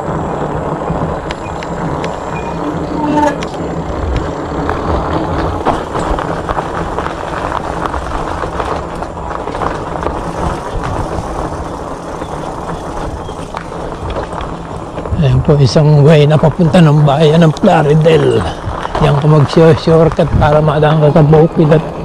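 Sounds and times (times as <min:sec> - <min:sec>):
bike rattling over bumps: 0:00.0 - 0:22.0
tyres crunching on gravel: 0:00.0 - 0:22.0
wind on microphone: 0:00.0 - 0:22.0.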